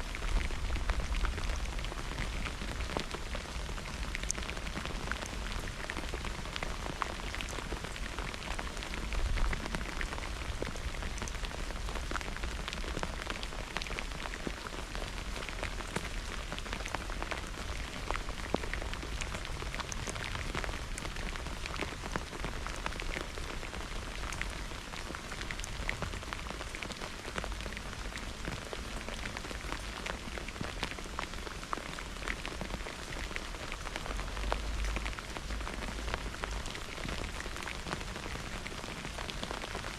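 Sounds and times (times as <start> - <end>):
raindrops ticking: 0.2 - 39.9.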